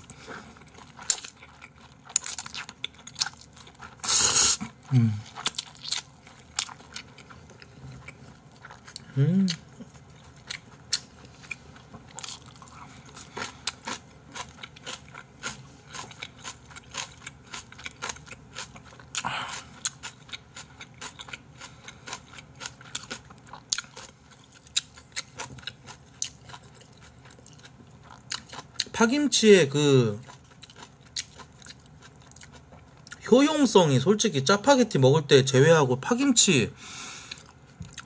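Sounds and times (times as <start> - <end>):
person chewing and crunching: 0.0 - 33.2, 37.2 - 38.0.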